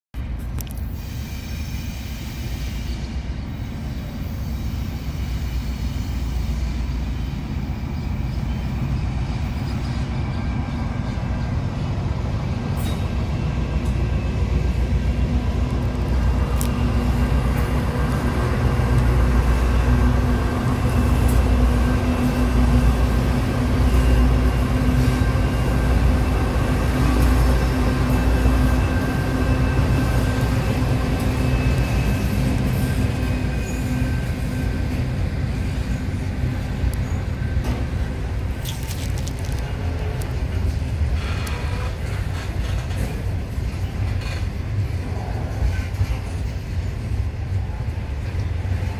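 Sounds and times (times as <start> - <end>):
diesel locomotive engine rumble: 0.1 - 48.9
locomotive hum and whine: 0.2 - 48.9.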